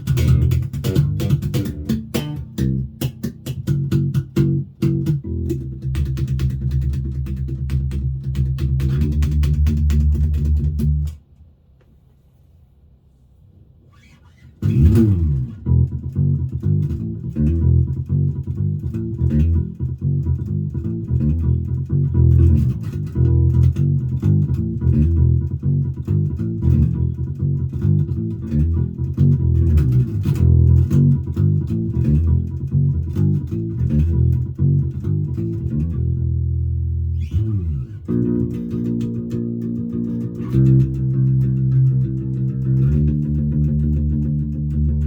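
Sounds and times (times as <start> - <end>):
plucked electric bass notes: 0.0 - 11.2, 14.5 - 45.0.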